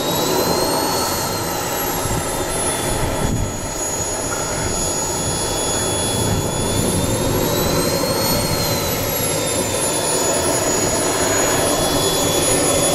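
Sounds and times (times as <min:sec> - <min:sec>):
model jet turbine whine: 0:00.0 - 0:12.9.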